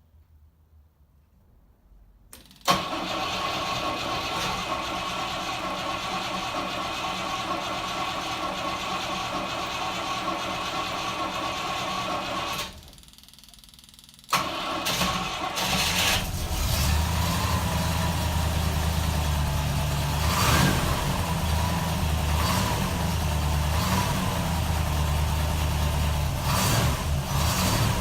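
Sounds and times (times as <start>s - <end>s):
car engine starting and running: 2.6s - 12.8s, 14.3s - 28.0s.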